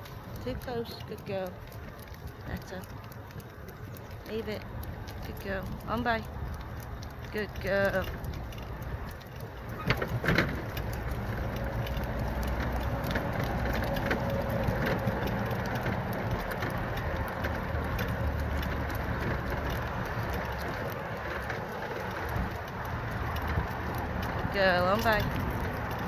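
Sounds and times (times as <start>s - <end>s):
small clicks and knocks: 0.0s - 26.0s
wheels rumbling over rough ground: 0.0s - 26.0s.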